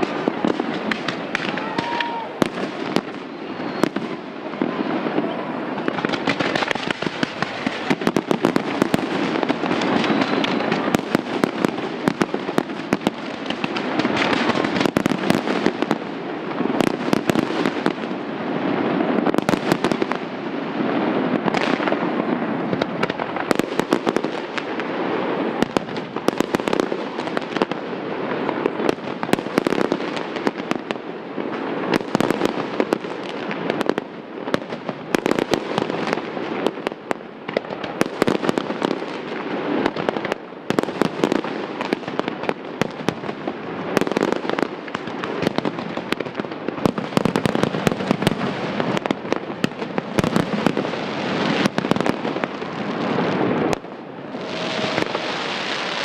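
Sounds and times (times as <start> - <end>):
fireworks bangs: 0.0 - 56.0
fireworks crackle: 0.0 - 56.0.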